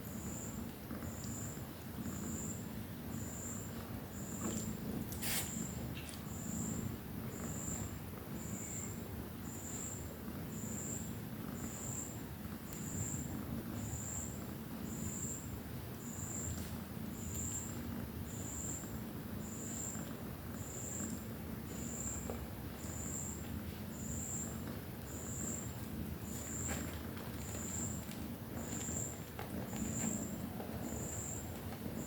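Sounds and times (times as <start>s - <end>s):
cat purring: 0.1s - 32.0s.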